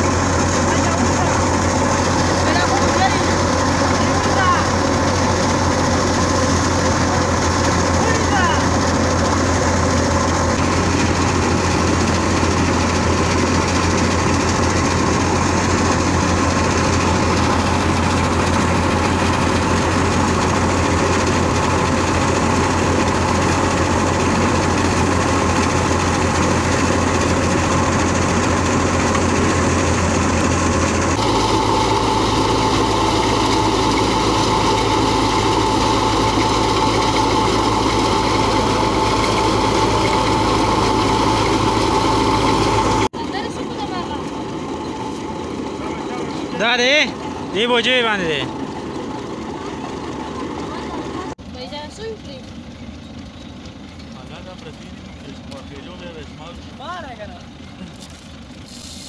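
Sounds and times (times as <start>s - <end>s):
thresher and tractor mechanical drone: 0.0s - 59.0s.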